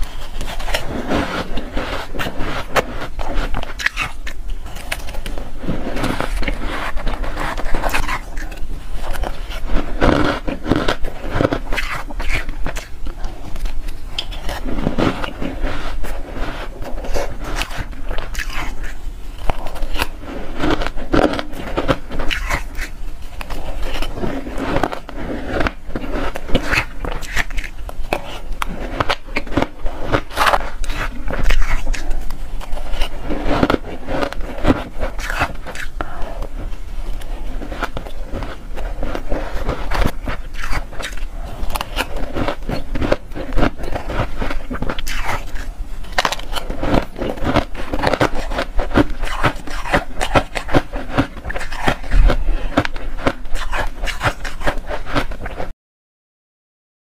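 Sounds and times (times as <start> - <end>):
metal spoon scraping ice: 0.0 - 12.9, 14.2 - 36.5, 37.1 - 55.7
crunching and chewing ice: 0.0 - 55.7.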